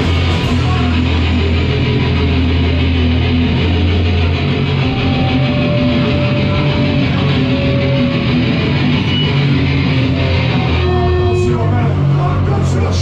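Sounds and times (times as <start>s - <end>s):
electric guitar: 0.0s - 13.0s
heavy bass line: 0.0s - 13.0s.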